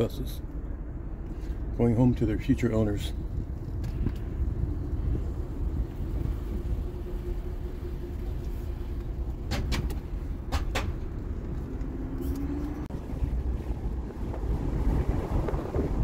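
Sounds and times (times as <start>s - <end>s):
faint engine hum: 0.0s - 16.0s
low rumble of traffic: 0.0s - 16.0s
wind buffeting microphone: 0.7s - 16.0s.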